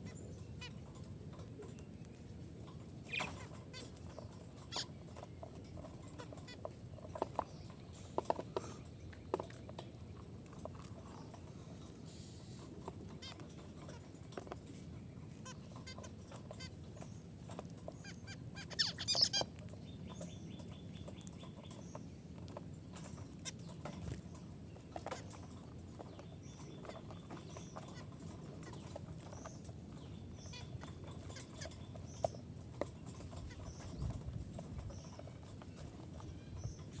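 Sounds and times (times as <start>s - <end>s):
budgerigars chirping and chattering: 0.0s - 37.0s.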